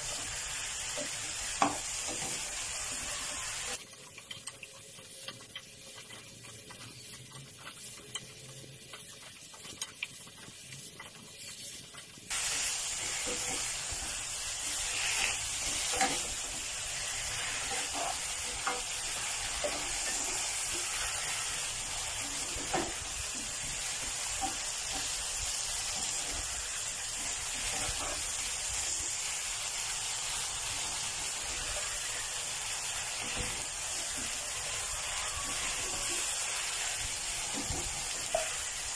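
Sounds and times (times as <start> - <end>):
spatula scraping and tapping pan: 0.0 - 29.2, 35.6 - 38.9
food sizzling in a pan: 0.0 - 38.9.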